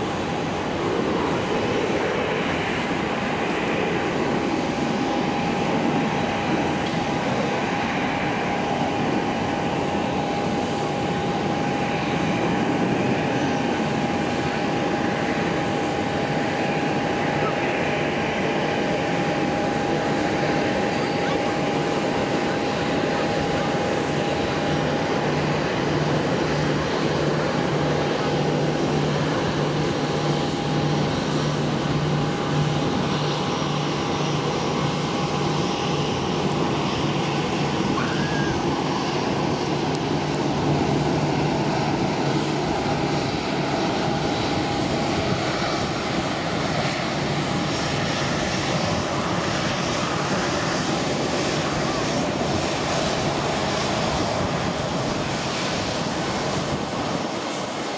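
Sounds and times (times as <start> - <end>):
jet engines rushing: 0.0 - 57.9
thin steady whine: 0.0 - 57.9.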